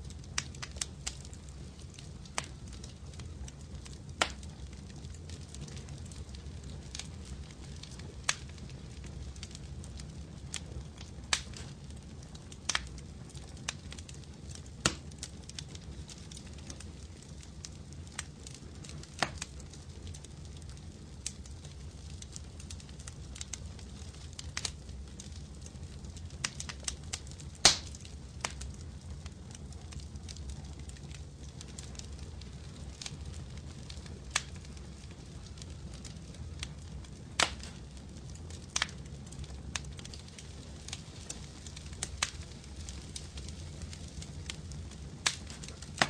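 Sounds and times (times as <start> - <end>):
wood fire crackling: 0.0 - 46.0
sharp pops of fire: 0.3 - 46.0.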